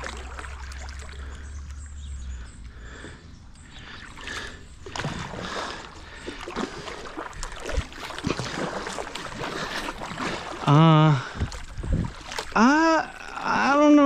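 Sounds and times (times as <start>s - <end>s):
paddle splashing water: 0.0s - 14.0s.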